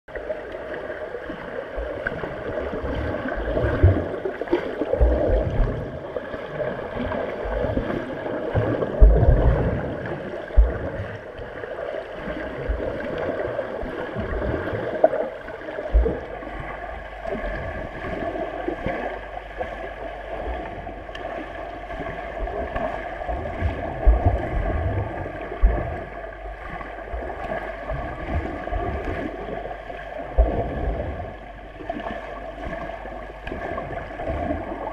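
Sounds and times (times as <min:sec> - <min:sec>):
water churning underwater: 0:00.1 - 0:34.9
low underwater thumps: 0:01.8 - 0:11.6, 0:12.3 - 0:34.9.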